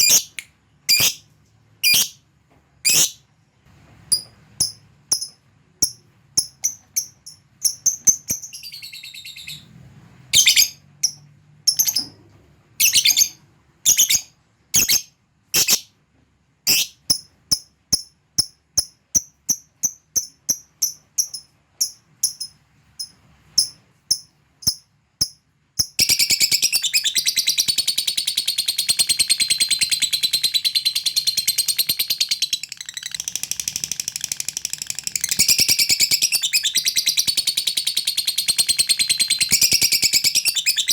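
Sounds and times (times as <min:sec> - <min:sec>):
lovebird chirping and chattering: 0:00.0 - 0:01.2, 0:01.8 - 0:02.2, 0:02.8 - 0:03.2, 0:04.1 - 0:09.7, 0:10.3 - 0:12.2, 0:12.8 - 0:15.9, 0:16.6 - 0:40.9.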